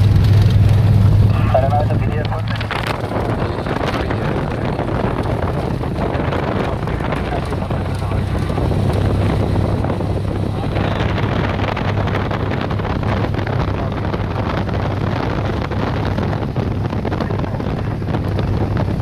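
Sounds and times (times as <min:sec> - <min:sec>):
propeller engine drone: 0:00.0 - 0:19.0.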